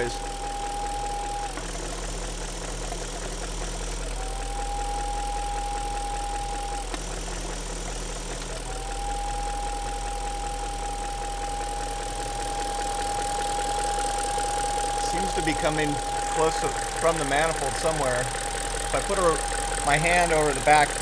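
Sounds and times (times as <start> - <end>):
car engine idling: 0.0 - 21.0
high steady whistle: 0.0 - 21.0.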